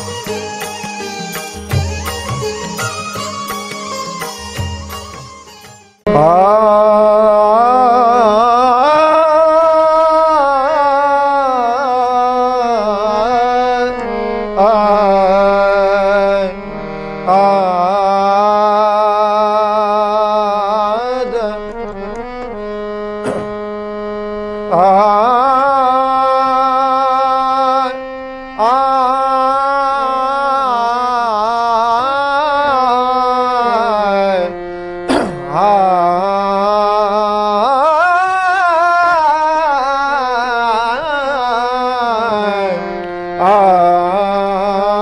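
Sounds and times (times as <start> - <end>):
harmonium chords: 0.0 - 45.0
man singing devotional song: 6.0 - 45.0.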